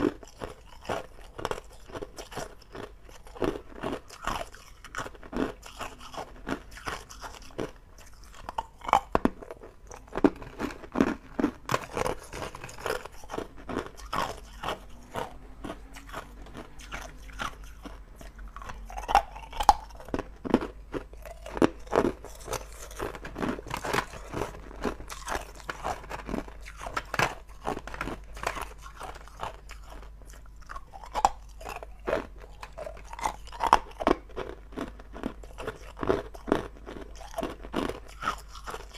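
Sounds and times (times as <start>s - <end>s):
person crunching ice cubes: 0.0s - 38.9s.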